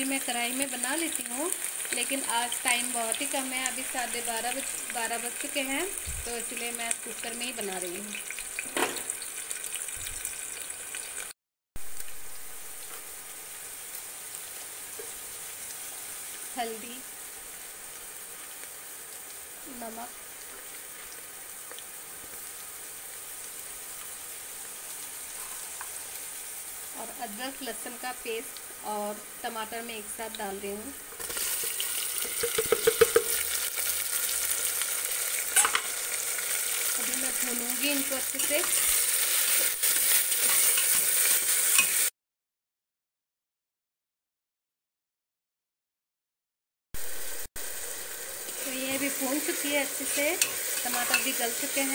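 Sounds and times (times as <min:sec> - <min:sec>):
onions sizzling in hot oil: 0:00.0 - 0:42.1, 0:47.0 - 0:51.9.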